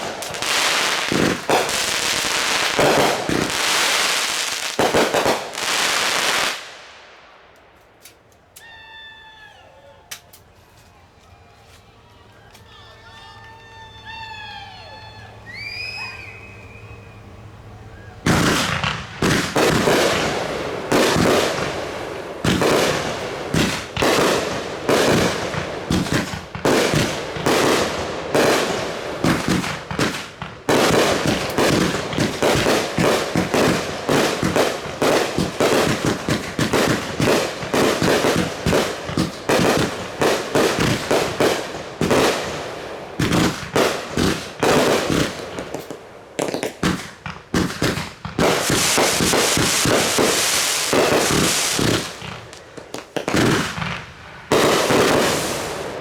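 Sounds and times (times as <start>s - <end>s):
fireworks bangs and crackles: 0.0s - 7.3s, 18.0s - 56.0s.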